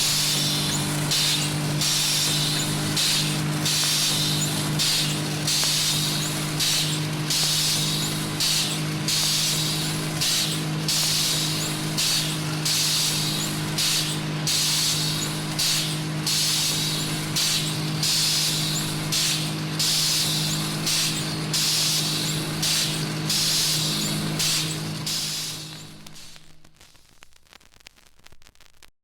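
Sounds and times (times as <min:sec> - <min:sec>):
rhythmic hissing bursts: 0:00.0 - 0:26.8.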